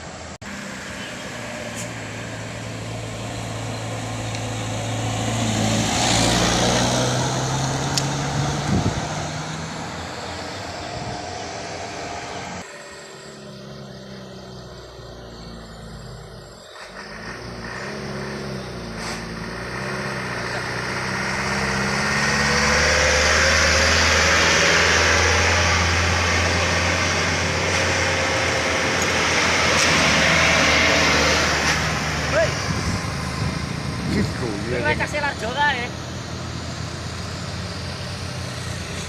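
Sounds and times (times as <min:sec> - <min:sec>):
road noise: 0:00.0 - 0:39.0
truck engine droning: 0:00.0 - 0:39.0.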